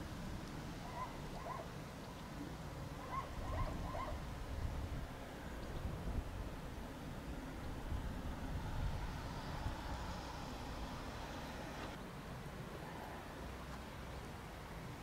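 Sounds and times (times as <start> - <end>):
low rumble of background noise: 0.0 - 15.0.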